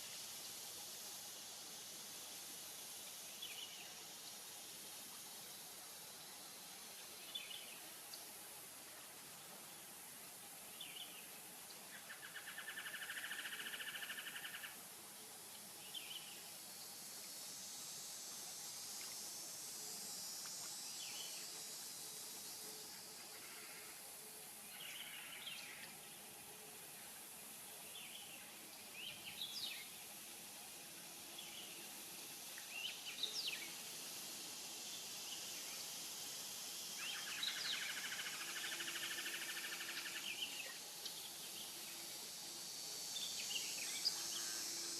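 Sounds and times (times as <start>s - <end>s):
high insect hiss: 0.0s - 44.9s.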